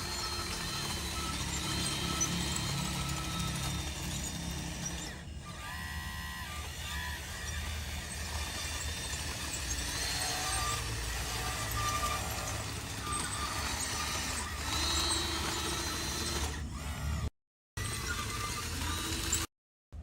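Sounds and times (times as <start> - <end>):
whining motor tones: 0.0 - 19.5.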